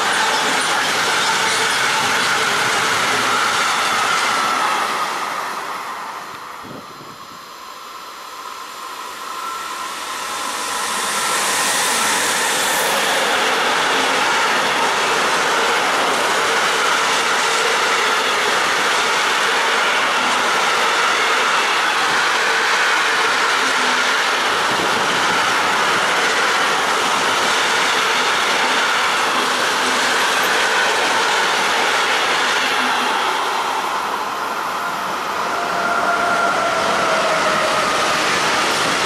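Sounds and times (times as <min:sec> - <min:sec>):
electric locomotive passing: 0:00.0 - 0:39.0.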